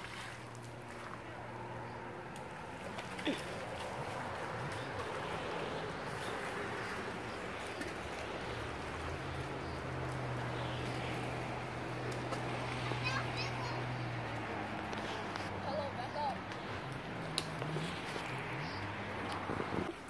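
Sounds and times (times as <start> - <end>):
motorboat engine humming: 0.0 - 20.0
small waves lapping: 0.0 - 20.0.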